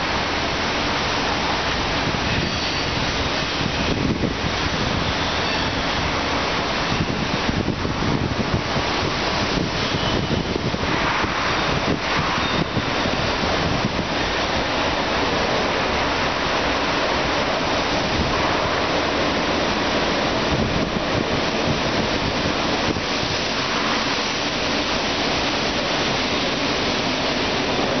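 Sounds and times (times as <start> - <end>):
wind buffeting microphone: 1.8 - 5.2, 5.9 - 28.0.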